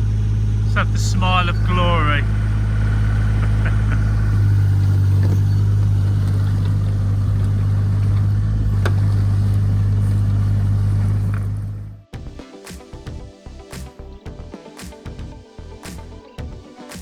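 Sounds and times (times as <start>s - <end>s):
digger engine humming: 0.0s - 17.0s.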